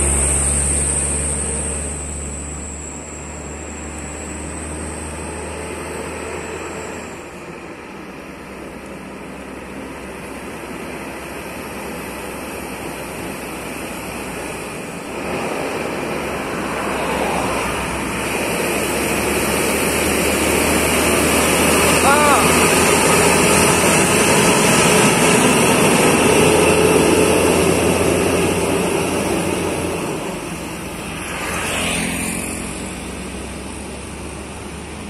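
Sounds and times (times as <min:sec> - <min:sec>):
truck diesel engine climbing: 0:00.0 - 0:35.0.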